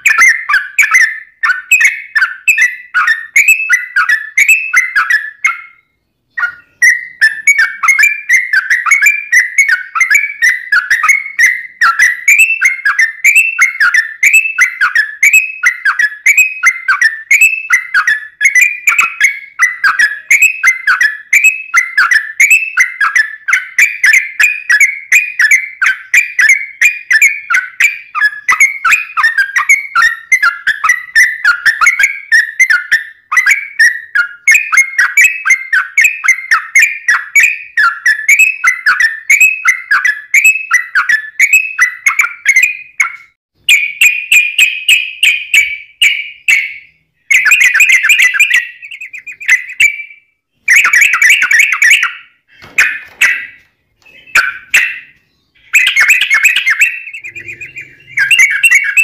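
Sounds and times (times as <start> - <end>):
bird singing bubbly whistles: 0.0 - 59.0.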